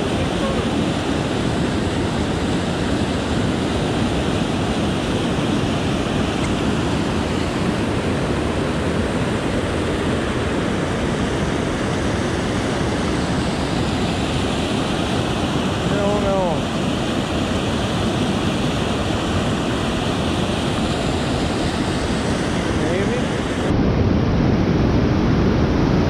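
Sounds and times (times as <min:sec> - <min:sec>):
waterfall rushing: 0:00.0 - 0:23.7.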